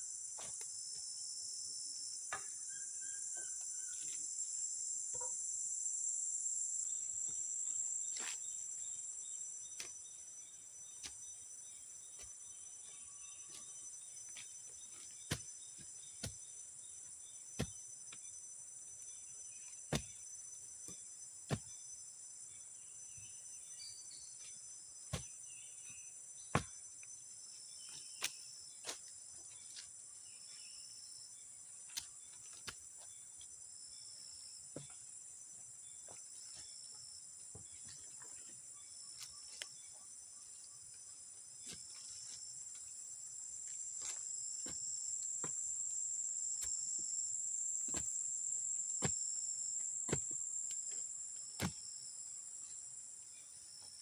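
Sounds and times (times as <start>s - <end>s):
high insect chorus: 0.0s - 54.0s.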